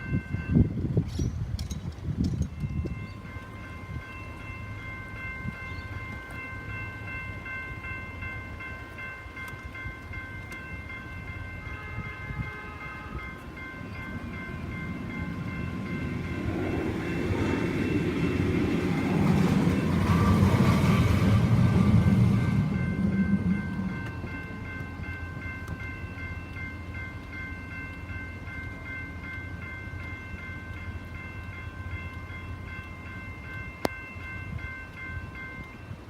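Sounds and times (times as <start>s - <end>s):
tram rumble: 0.0s - 36.0s
level crossing bells ringing: 2.5s - 36.0s.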